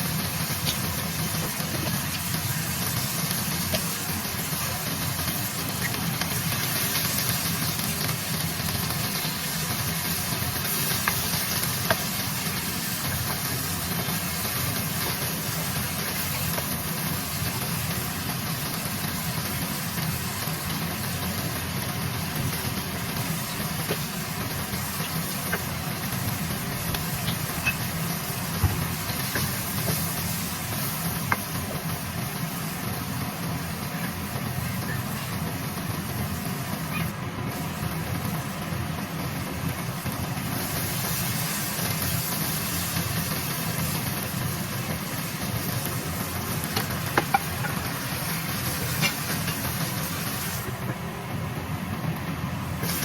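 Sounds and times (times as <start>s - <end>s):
food sizzling in a hot pan: 0.0s - 53.0s.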